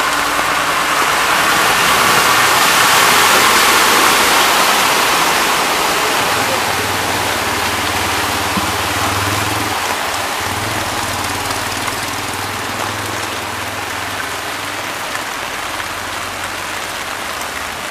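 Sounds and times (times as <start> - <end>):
heavy rain: 0.0 - 17.9
truck wheels splashing through floodwater: 0.0 - 17.9
vehicle engine humming: 0.0 - 17.9.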